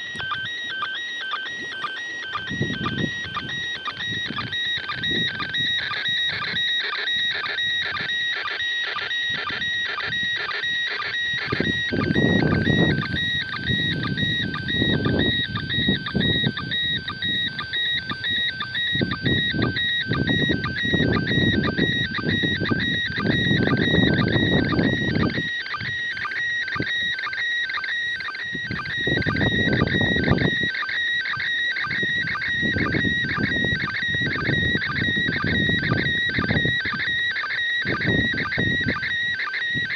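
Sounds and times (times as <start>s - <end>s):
two-tone warble signal: 0.0s - 39.9s.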